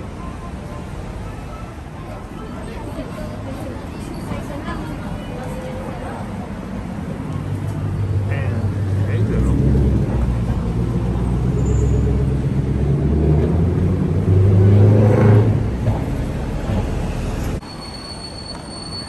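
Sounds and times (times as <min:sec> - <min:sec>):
vehicle rumbling in motion: 0:00.0 - 0:19.0.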